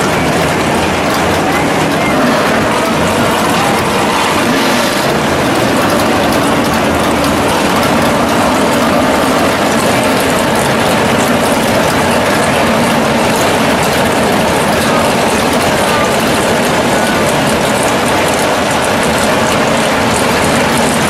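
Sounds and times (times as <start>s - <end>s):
race car engines idling: 0.0s - 21.0s.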